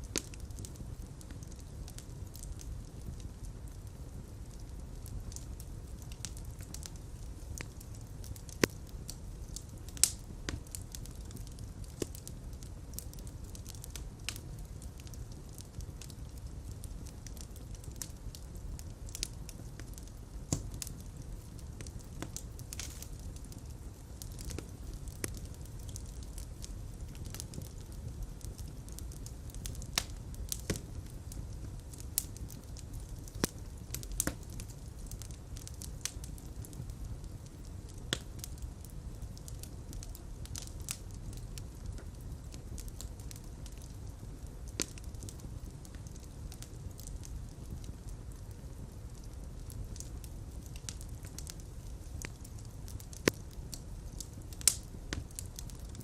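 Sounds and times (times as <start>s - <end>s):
fire crackling with pops: 0.0s - 56.0s.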